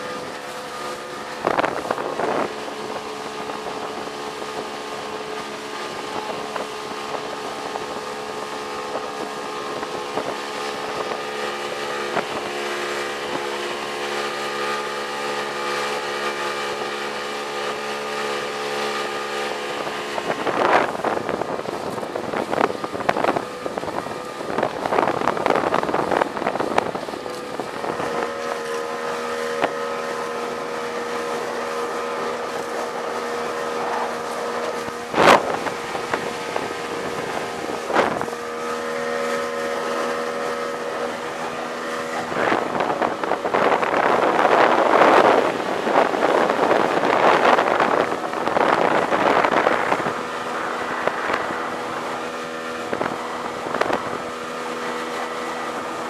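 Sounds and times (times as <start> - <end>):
outboard motor running: 0.0 - 56.0
rushing wind and spray: 0.0 - 56.0.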